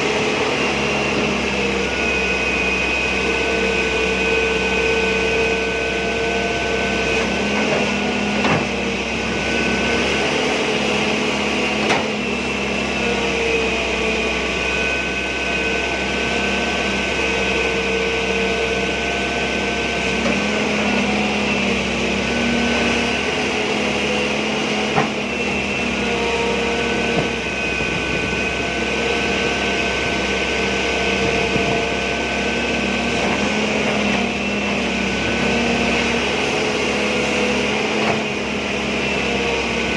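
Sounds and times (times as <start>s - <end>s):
excavator engine and hydraulics whining: 0.0s - 39.9s.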